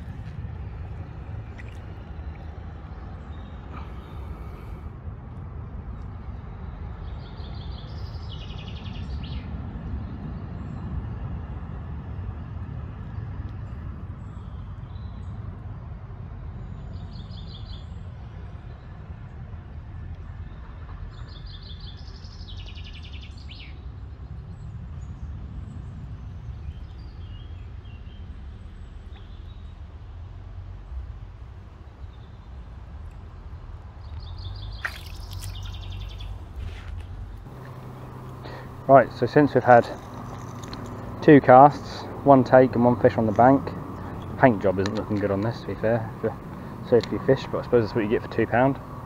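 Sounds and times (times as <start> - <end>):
low outdoor rumble: 0.0 - 22.6, 23.8 - 49.0.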